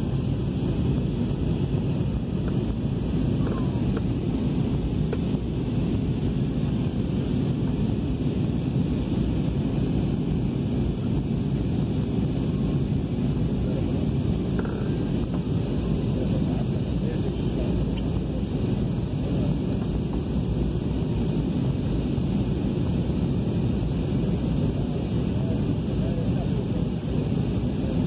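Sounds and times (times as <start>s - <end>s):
jet airliner cabin noise: 0.0s - 28.0s.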